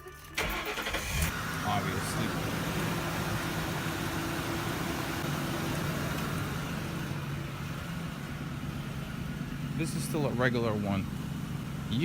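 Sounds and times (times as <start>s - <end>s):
van engine idling: 0.4s - 12.0s.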